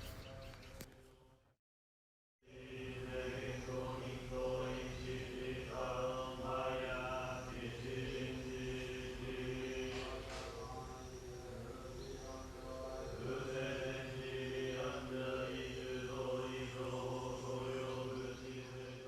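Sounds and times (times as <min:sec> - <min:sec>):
monks chanting drone: 0:02.4 - 0:19.0.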